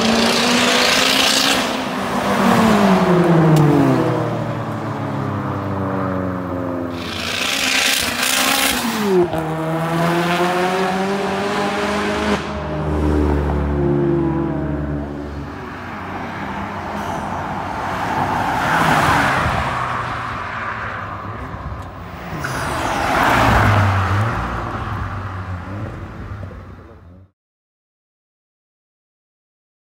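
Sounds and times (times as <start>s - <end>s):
cars driving past: 0.0s - 27.3s.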